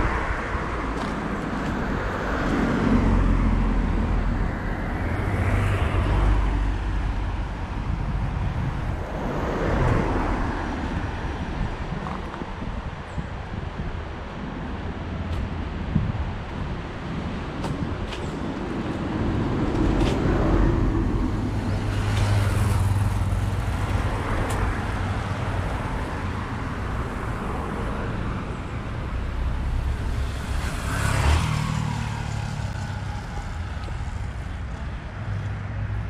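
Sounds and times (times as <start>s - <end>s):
traffic engine rumble: 0.0s - 36.0s.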